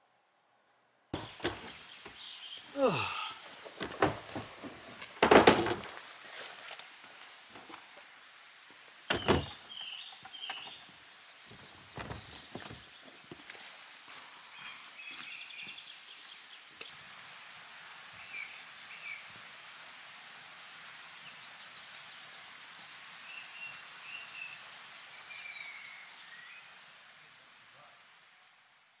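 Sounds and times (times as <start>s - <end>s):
steady hiss: 0.0s - 29.0s
small birds chirping: 1.2s - 28.5s.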